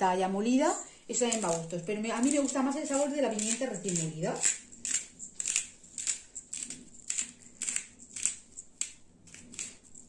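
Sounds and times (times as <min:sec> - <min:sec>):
pepper grinder grinding: 0:01.1 - 0:10.0.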